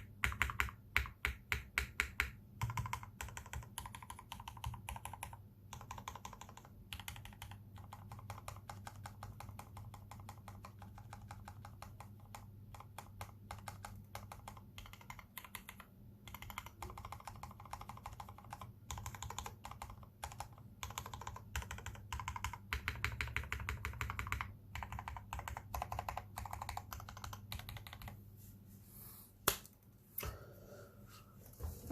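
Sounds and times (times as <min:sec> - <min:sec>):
mechanical keyboard typing: 0:00.0 - 0:28.2.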